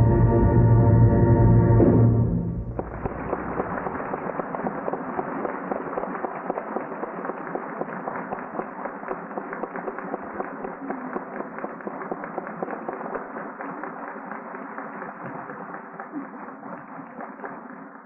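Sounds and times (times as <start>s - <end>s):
audience applauding: 2.7s - 18.0s.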